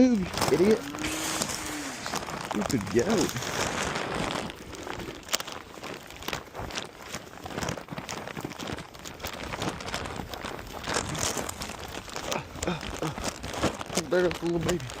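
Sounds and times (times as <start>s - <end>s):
footsteps and shuffling: 0.0s - 15.0s.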